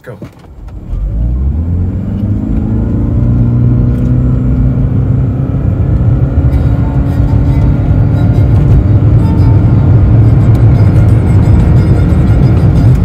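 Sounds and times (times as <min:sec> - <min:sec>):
car engine accelerating: 0:00.4 - 0:13.0.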